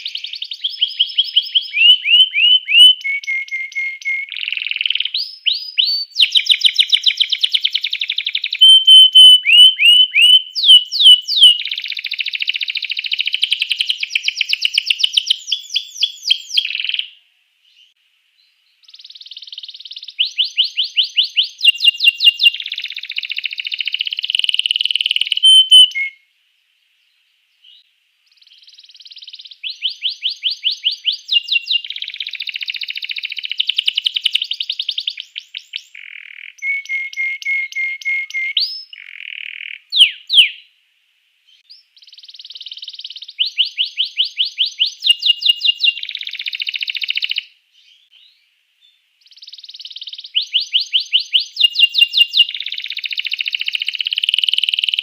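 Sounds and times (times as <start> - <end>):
canary singing trills and whistles: 0.0 - 18.0, 18.8 - 26.2, 27.6 - 40.7, 41.5 - 48.4, 49.2 - 55.0.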